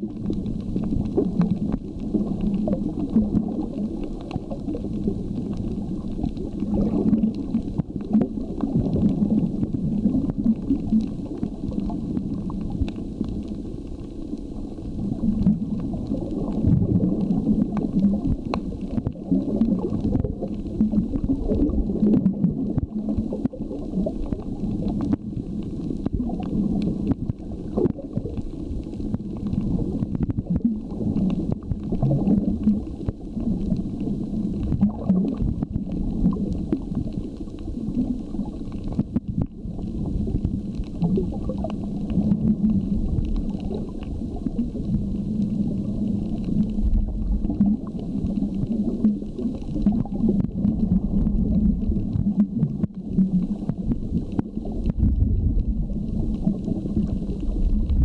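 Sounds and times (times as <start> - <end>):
muffled underwater rumble: 0.0 - 58.0
faint clicks: 0.1 - 58.0.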